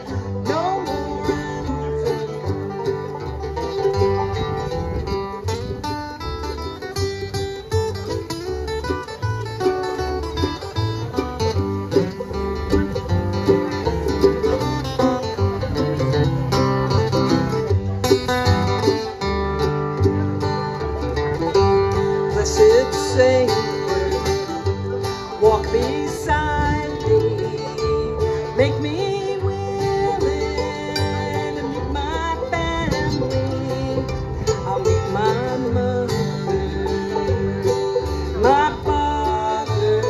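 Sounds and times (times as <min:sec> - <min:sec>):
acoustic guitar picking: 0:00.0 - 0:40.0
banjo: 0:00.0 - 0:40.0
mandolin: 0:00.0 - 0:40.0
upright bass: 0:00.0 - 0:40.0.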